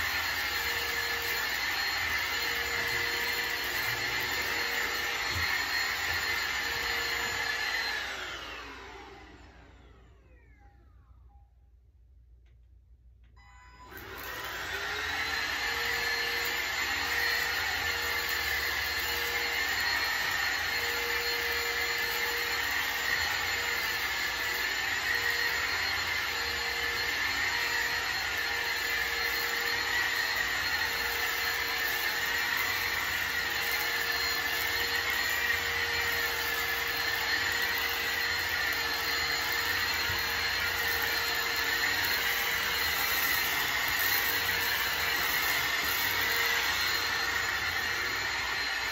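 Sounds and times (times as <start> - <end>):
stick vacuum running on a rug: 0.0 - 11.1, 13.4 - 48.9.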